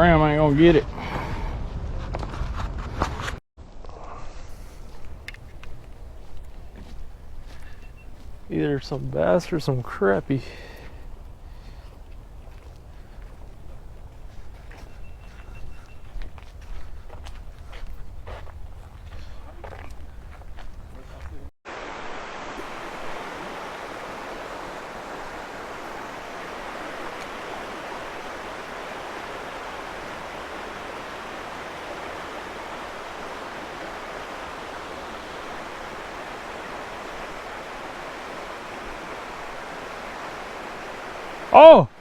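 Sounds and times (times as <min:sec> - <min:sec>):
creek water rushing: 0:04.6 - 0:17.2, 0:20.8 - 0:42.0.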